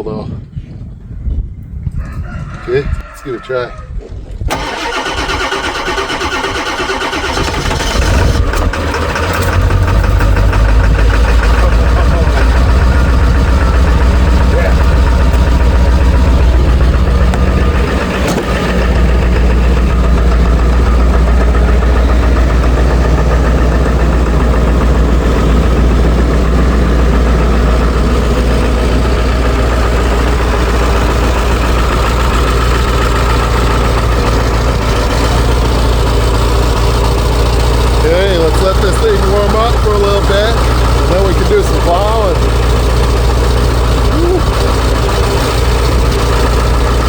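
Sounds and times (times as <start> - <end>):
diesel engine idling: 4.4 - 47.0.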